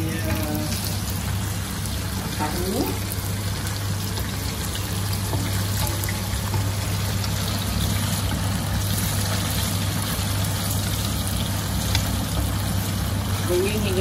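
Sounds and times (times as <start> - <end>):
tofu sizzling in hot oil: 0.0 - 14.0.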